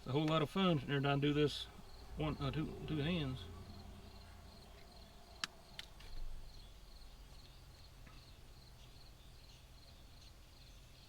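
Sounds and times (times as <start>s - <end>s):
faint crickets chirping: 0.1s - 11.0s.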